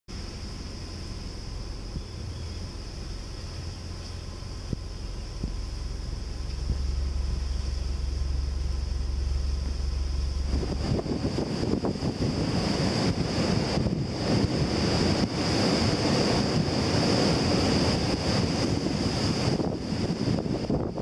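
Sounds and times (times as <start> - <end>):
deep low rumble: 0.1 - 21.0
gusty wind through palm trees: 0.1 - 21.0
wind buffeting microphone: 1.4 - 21.0.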